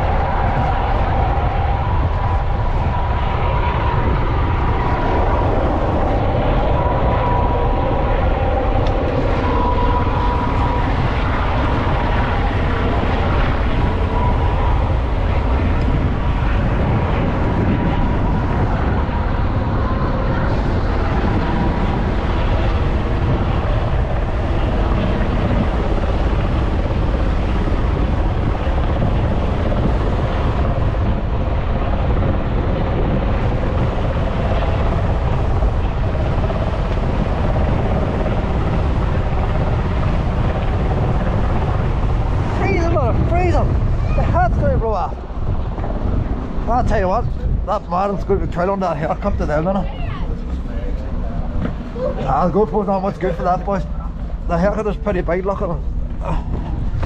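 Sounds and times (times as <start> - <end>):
aircraft drone: 0.0 - 57.0
wind rumble on microphone: 0.0 - 57.0.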